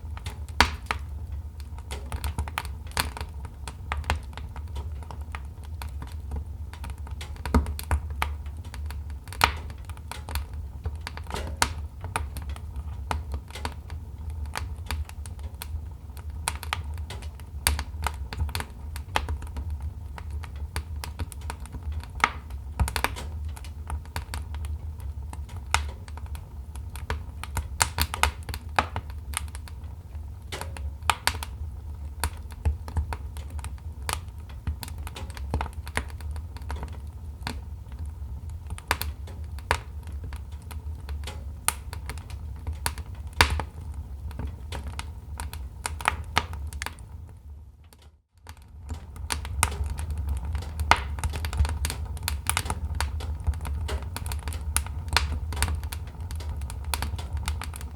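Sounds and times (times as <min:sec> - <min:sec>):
fire popping and snapping: 0:00.0 - 0:57.9
fire rumbling: 0:00.0 - 0:57.9.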